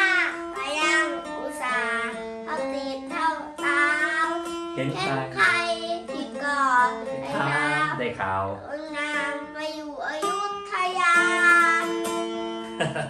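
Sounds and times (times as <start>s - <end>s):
child singing: 0.0s - 12.3s
plucked lute melody: 0.0s - 13.0s.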